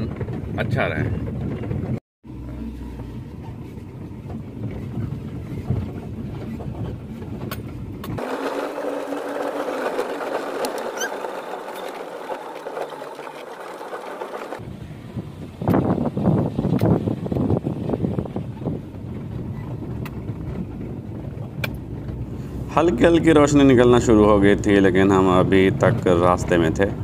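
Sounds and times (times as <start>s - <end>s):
vehicle engine and tyres rumbling: 0.0s - 27.0s.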